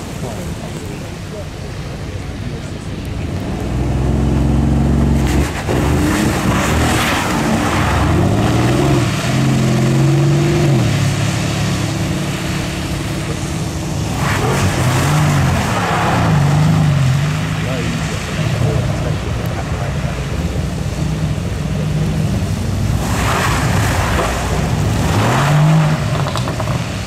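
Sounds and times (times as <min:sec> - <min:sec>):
sports car engines revving: 0:03.0 - 0:27.0.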